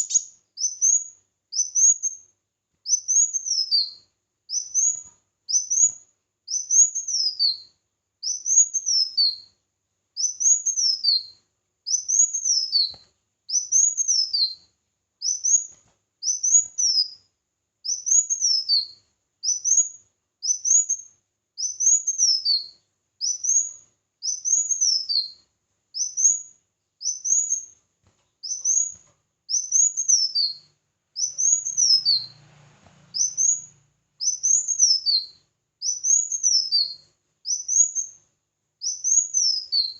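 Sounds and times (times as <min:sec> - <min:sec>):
songbird chirping: 0:00.0 - 0:09.6, 0:10.2 - 0:39.9.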